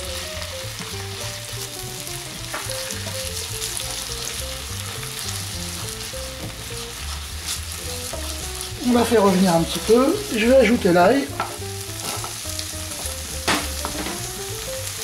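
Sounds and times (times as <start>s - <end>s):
paste sizzling in oil: 0.0s - 15.0s
wooden spatula stirring in pan: 0.0s - 15.0s.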